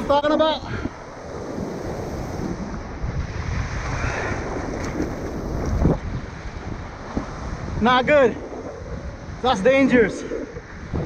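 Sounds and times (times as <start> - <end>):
breaking surf: 0.0 - 11.0
wind buffeting microphone: 0.0 - 11.0.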